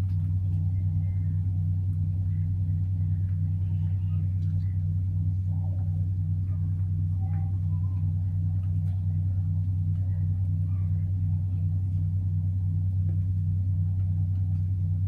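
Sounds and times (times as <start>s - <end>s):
motor running with pulsing drone: 0.0s - 15.0s.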